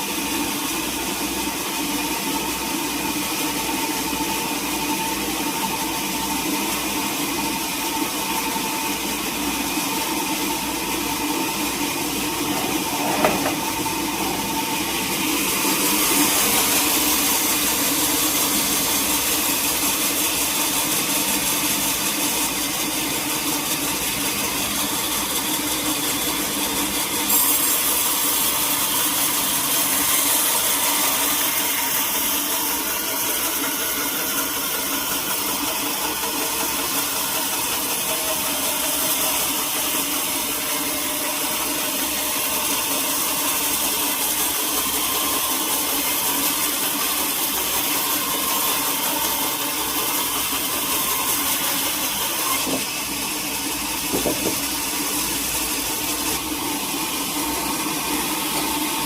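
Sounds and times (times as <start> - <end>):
sawmill saw humming: 0.0 - 59.0.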